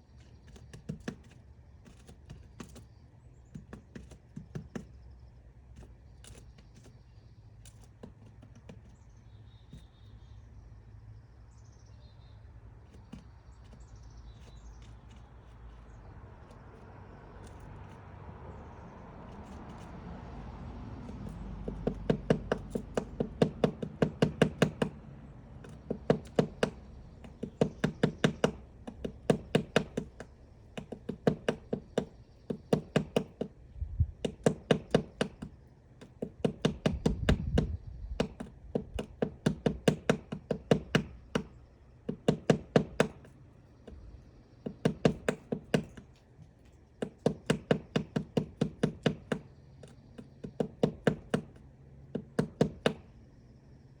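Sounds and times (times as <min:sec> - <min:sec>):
woodpecker knocking on wood: 0:00.2 - 0:05.1, 0:05.7 - 0:10.1, 0:12.8 - 0:18.1, 0:20.9 - 0:53.1.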